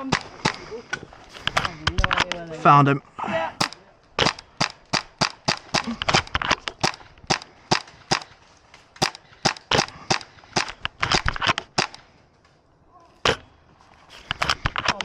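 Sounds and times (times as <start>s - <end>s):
toy guns firing single shots: 0.0s - 2.4s, 3.6s - 12.1s, 13.1s - 15.0s.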